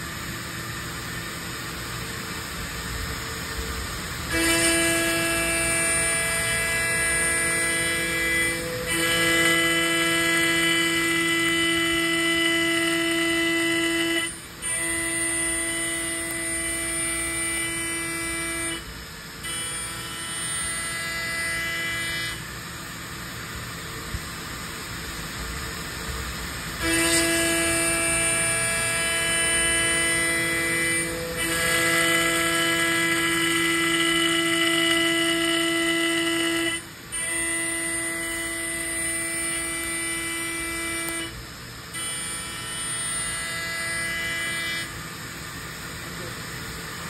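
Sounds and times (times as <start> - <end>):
router spindle whine milling metal: 0.0 - 47.0.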